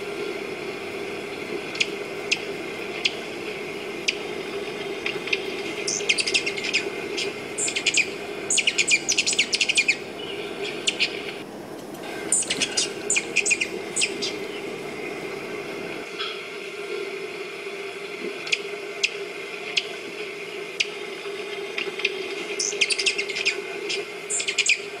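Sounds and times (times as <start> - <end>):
birds chirping: 0.0 - 16.4, 18.4 - 25.0
steady low hum: 0.0 - 25.0.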